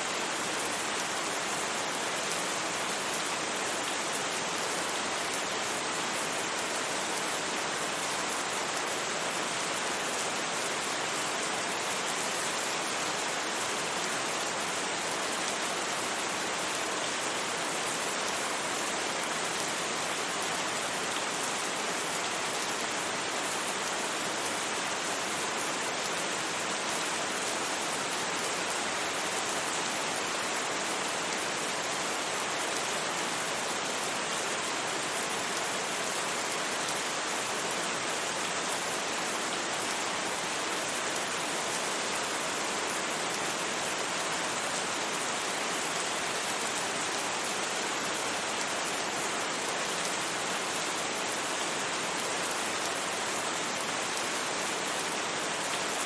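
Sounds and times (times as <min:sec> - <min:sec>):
steady rain: 0:00.0 - 0:56.0
white noise hiss: 0:00.0 - 0:56.0.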